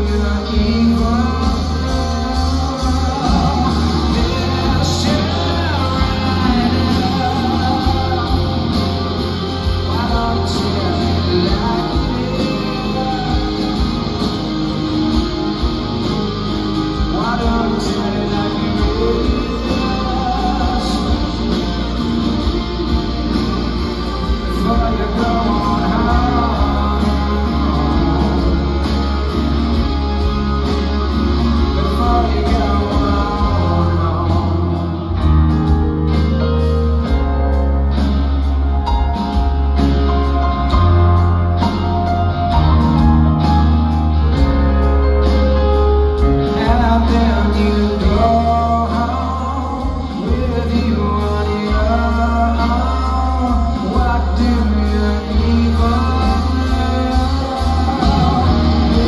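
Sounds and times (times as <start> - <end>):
man singing: 0.0 - 37.2, 38.9 - 59.0
bass guitar: 0.0 - 59.0
drums: 0.0 - 59.0
electric guitars: 0.0 - 59.0.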